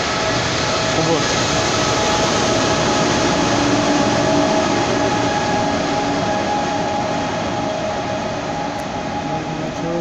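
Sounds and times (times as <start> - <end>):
electric traction whine: 0.0 - 10.0
train rolling noise: 0.0 - 10.0.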